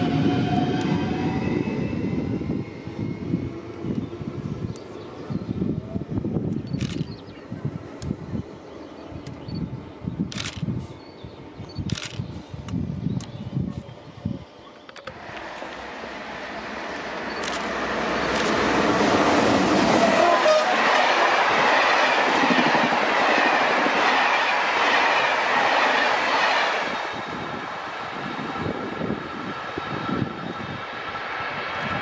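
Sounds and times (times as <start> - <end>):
train passing at speed: 0.0 - 12.9, 15.1 - 32.0.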